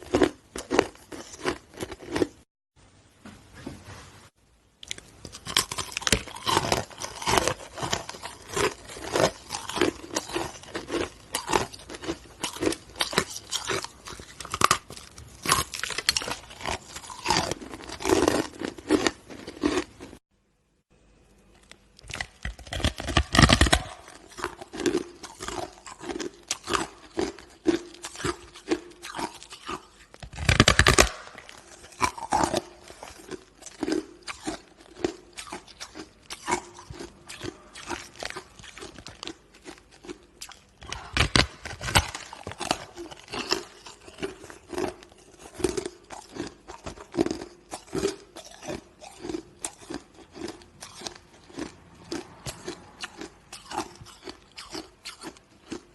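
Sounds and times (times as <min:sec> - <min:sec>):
person crunching ice: 0:00.0 - 0:02.4, 0:04.8 - 0:20.2, 0:22.0 - 0:55.8.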